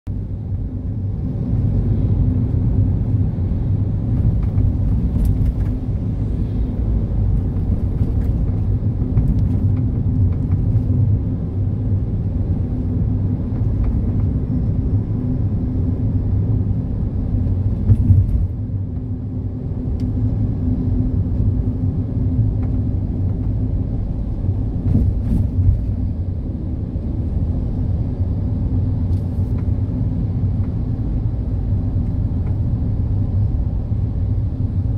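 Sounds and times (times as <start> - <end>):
engine and road rumble: 0.0 - 34.9.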